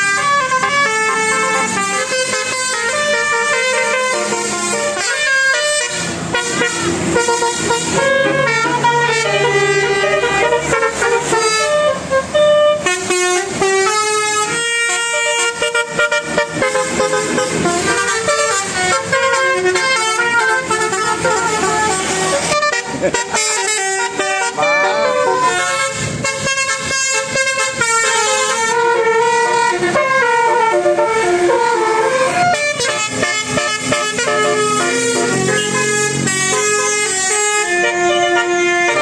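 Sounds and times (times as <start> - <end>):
bus horns playing melodic tunes: 0.0 - 39.0.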